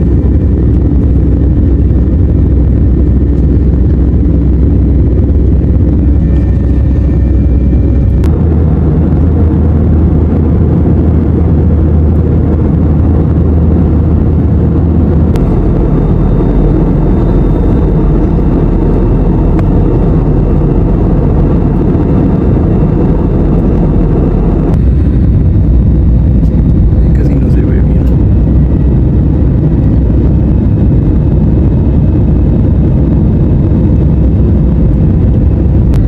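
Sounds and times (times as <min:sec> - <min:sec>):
jet engine and airflow noise: 0:00.0 - 0:36.0.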